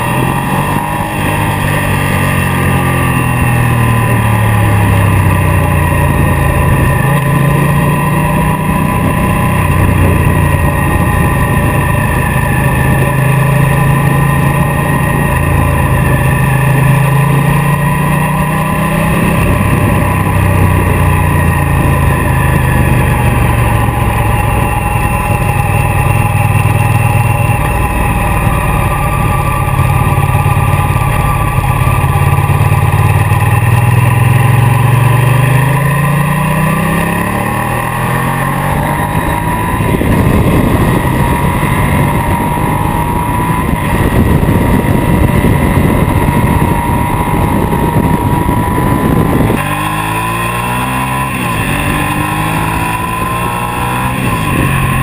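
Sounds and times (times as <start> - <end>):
motorcycle engine accelerating: 0.0 - 55.0
wind rushing over microphone: 0.0 - 55.0.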